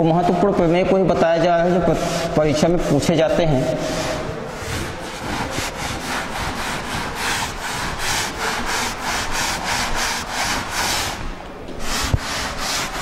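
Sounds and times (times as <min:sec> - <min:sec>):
duster scrubbing chalkboard: 0:01.5 - 0:13.0.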